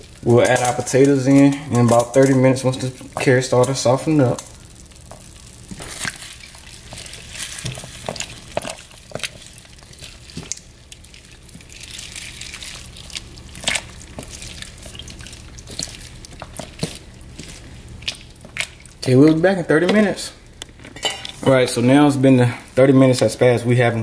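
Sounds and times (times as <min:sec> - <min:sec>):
wet squelches of spoon stirring stew: 0:00.0 - 0:21.7
faint steady hum: 0:00.0 - 0:24.0.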